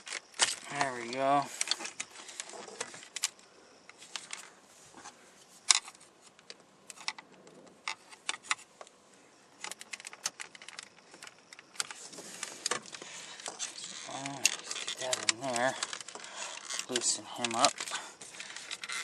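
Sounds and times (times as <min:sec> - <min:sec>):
plastic and metal parts clicking: 0:00.0 - 0:04.5, 0:05.6 - 0:08.9, 0:09.6 - 0:19.0.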